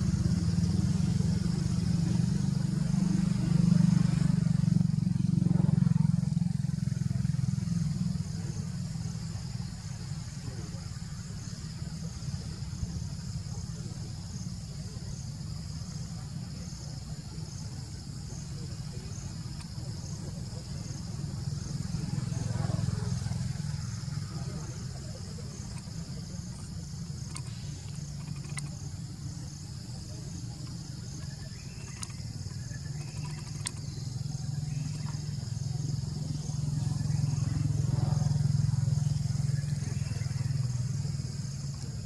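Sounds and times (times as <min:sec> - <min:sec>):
motor engine running: 0:00.0 - 0:42.0.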